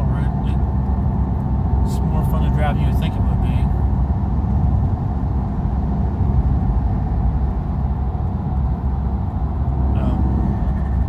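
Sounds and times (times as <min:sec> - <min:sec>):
car engine rumble inside cabin: 0:00.0 - 0:11.0.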